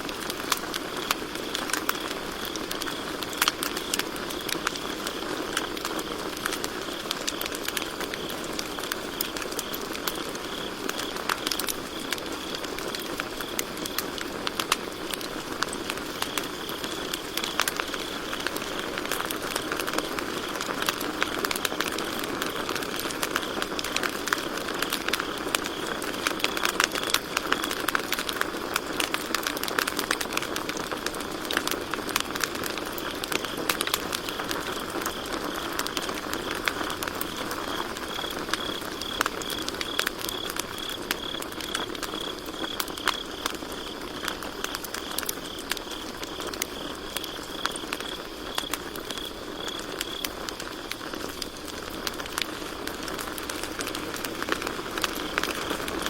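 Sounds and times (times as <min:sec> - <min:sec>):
campfire crackling: 0:00.0 - 0:56.0
cricket chirping: 0:00.5 - 0:56.0.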